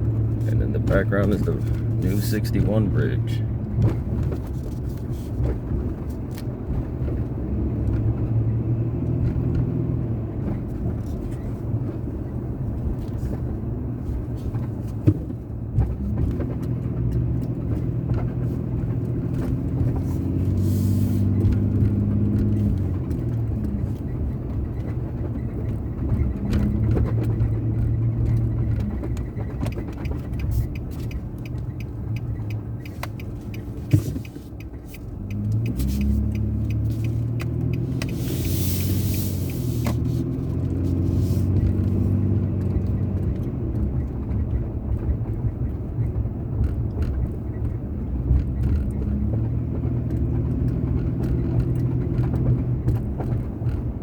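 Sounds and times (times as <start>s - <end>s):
car engine driving: 0.0s - 54.0s
road noise: 0.0s - 54.0s.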